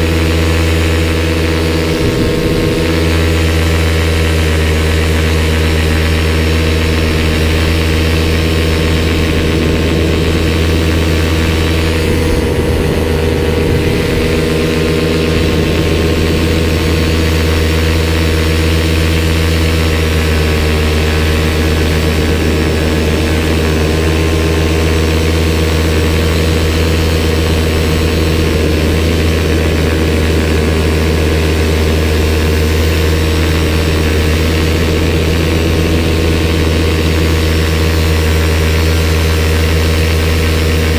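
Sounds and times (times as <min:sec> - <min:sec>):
paramotor engine drone: 0:00.0 - 0:40.9.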